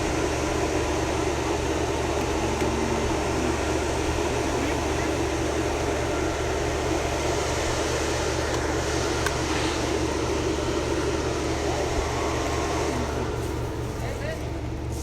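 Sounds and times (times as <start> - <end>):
low mechanical hum with pulse: 0.0 - 15.0.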